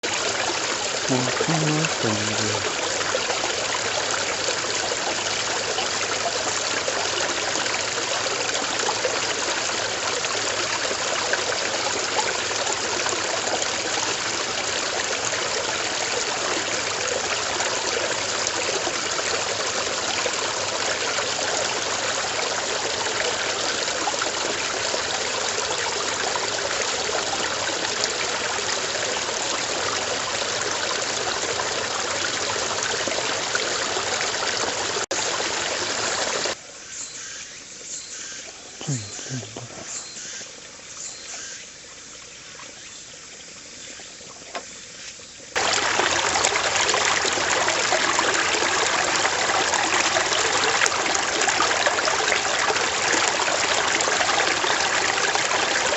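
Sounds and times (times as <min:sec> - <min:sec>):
stream water flowing: 0:00.0 - 0:55.9.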